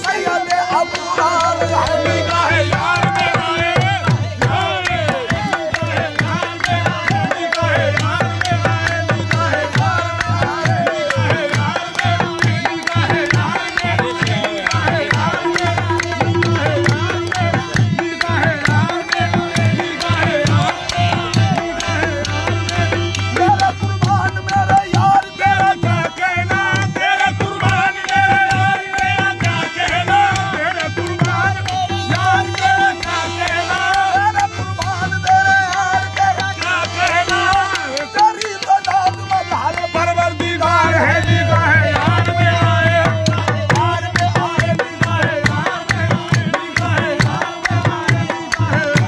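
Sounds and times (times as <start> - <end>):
tabla beat: 0.0 - 49.0.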